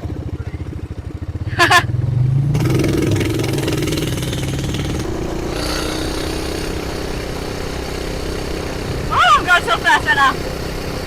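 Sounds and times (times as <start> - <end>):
mini bike engine running hard: 0.0 - 11.0.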